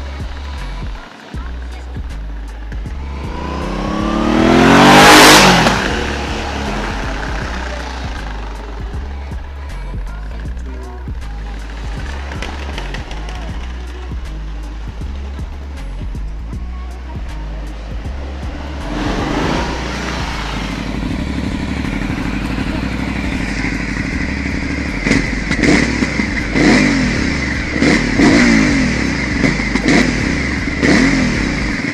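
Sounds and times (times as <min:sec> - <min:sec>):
exhaust thumps: 0:00.0 - 0:31.9
motorcycle engine idling: 0:00.0 - 0:31.9.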